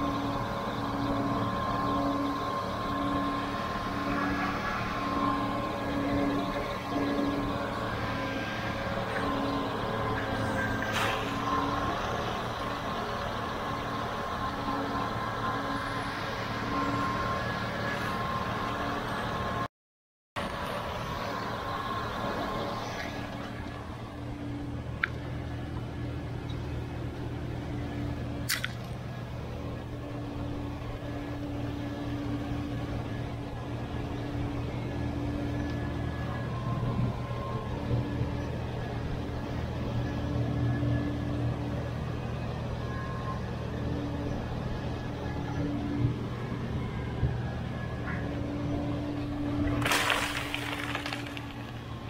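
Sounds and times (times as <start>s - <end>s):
farm machinery droning: 0.0s - 19.7s, 20.4s - 52.0s.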